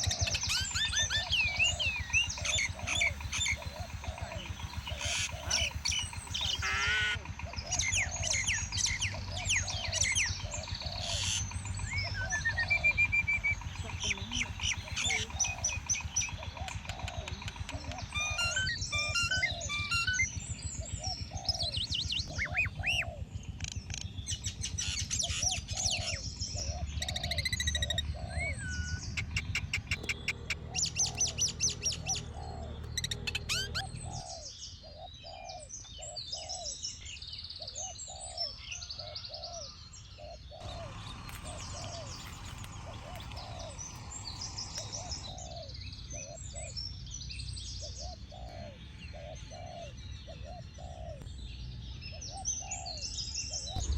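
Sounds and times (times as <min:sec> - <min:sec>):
birds chirping and trilling: 0:00.0 - 0:53.9.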